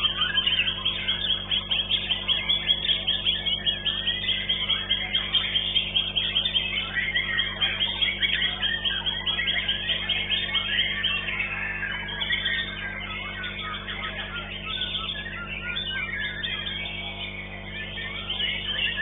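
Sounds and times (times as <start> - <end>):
bird singing repeated chirps: 0.0 - 19.0.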